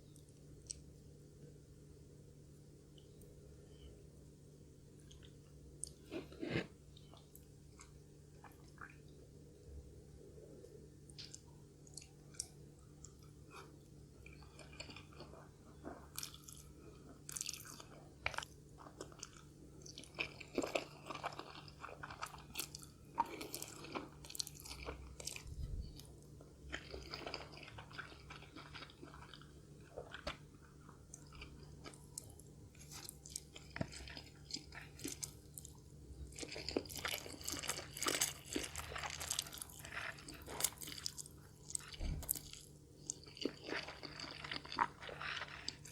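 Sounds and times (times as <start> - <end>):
faint steady hum: 0.0 - 45.9
person chewing crunchy food: 5.0 - 9.0, 11.2 - 45.9.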